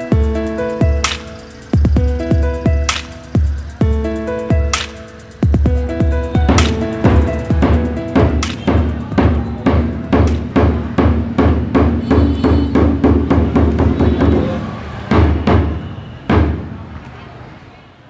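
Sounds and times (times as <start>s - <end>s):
music with drum beat: 0.0s - 16.7s.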